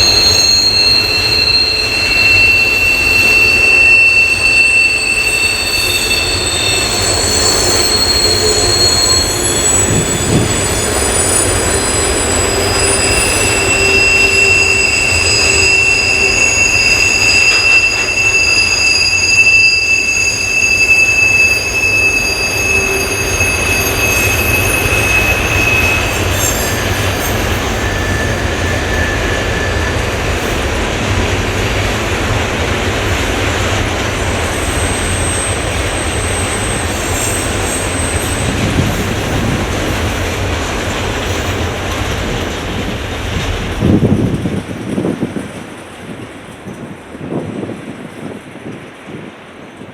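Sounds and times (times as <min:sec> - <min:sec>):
wheel flanges squealing: 0:00.0 - 0:43.5
train wheels rumbling on rails: 0:00.0 - 0:49.9.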